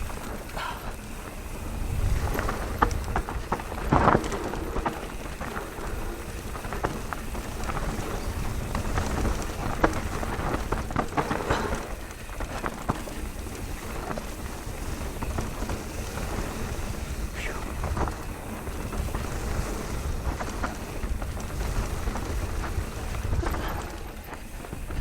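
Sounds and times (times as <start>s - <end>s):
bike clicks and knocks: 0.0s - 25.0s
tyres rolling over loose rock: 0.0s - 25.0s
wind buffeting microphone: 1.0s - 25.0s.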